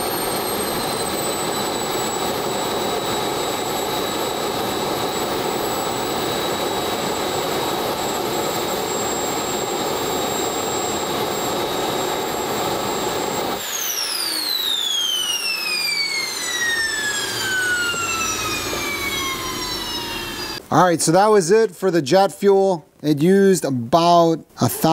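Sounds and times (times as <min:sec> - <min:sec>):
turbine spooling down whine: 0:00.0 - 0:20.6
jet turbine engine roaring: 0:00.0 - 0:20.7.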